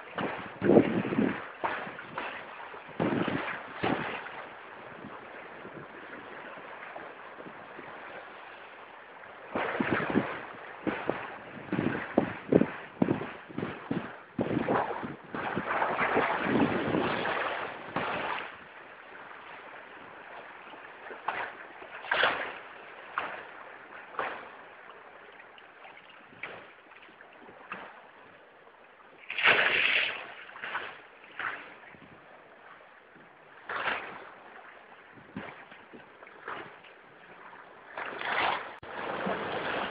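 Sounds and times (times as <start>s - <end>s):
water rushing along a hull: 0.0s - 39.9s.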